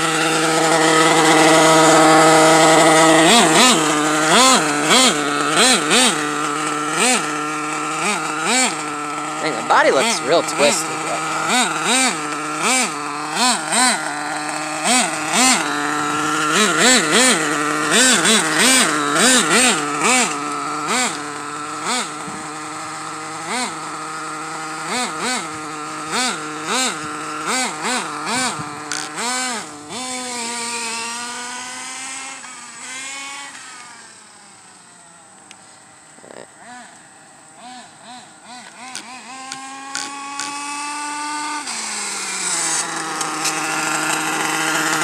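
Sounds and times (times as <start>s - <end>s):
small engine revving: 0.0s - 45.0s.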